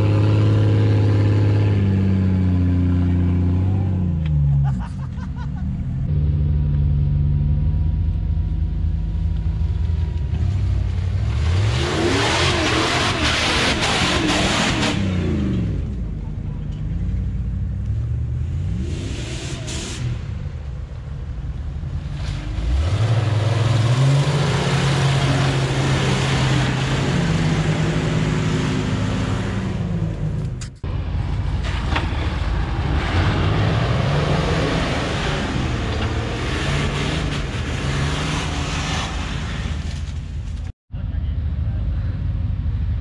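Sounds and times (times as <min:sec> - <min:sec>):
off-road engines revving uphill: 0:00.0 - 0:43.0.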